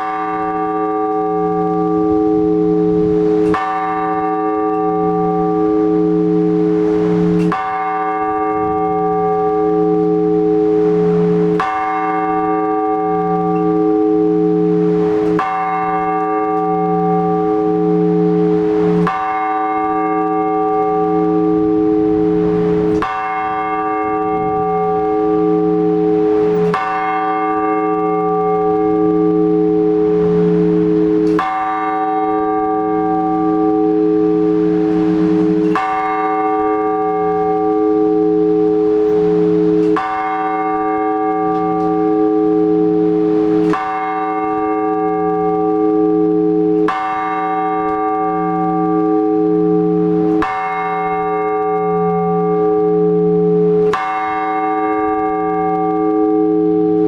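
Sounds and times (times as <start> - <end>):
large church bell tolling: 0.0 - 57.0.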